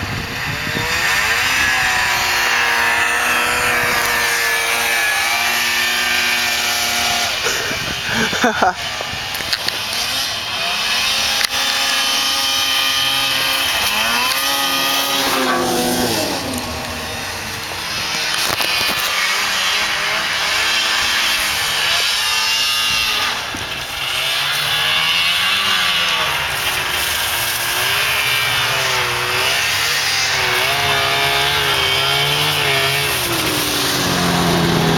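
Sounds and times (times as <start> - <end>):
snowmobile engines revving: 0.0 - 34.9.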